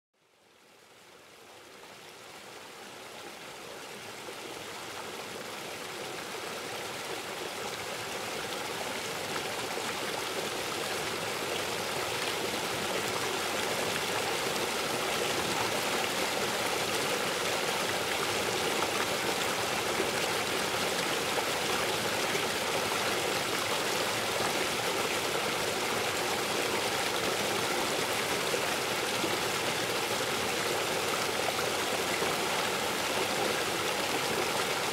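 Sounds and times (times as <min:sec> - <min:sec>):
river water rushing: 0:01.3 - 0:34.9.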